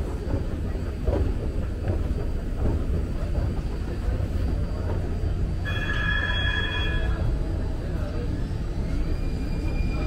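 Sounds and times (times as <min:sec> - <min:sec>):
train car rumbling: 0:00.0 - 0:10.0.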